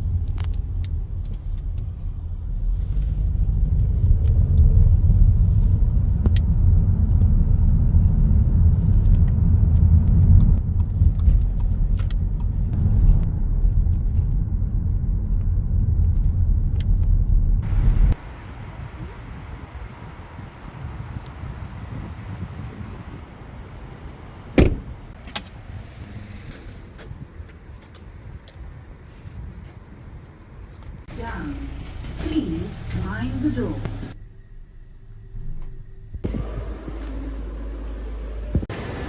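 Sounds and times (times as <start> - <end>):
road vehicle rumble: 0.0 - 39.0.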